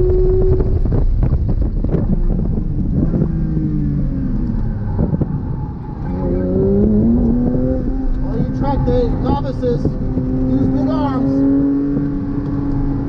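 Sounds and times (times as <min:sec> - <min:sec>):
race car engine: 0:00.0 - 0:13.0.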